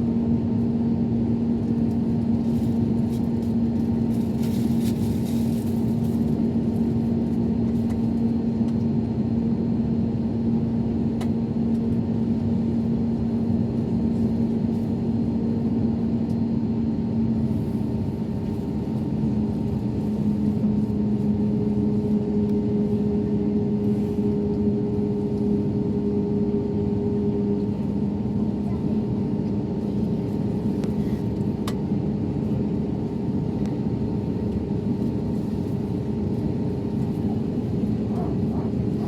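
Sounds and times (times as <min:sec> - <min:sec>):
jet engines droning: 0:00.0 - 0:39.0.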